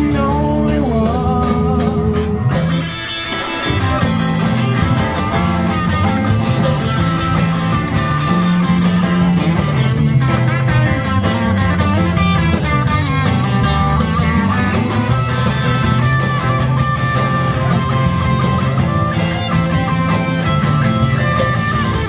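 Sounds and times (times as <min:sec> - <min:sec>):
live rock band playing: 0:00.0 - 0:22.0
long held guitar notes: 0:00.0 - 0:22.0.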